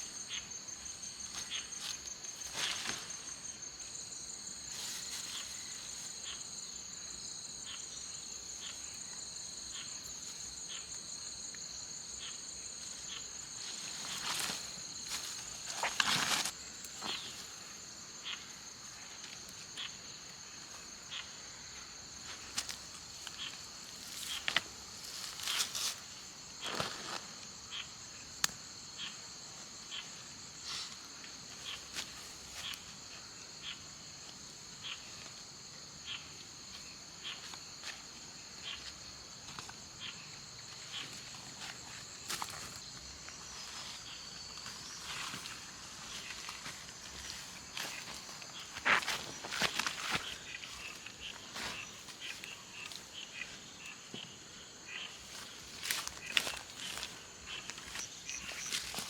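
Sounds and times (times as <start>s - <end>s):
shrill insect chorus: 0.0s - 59.0s.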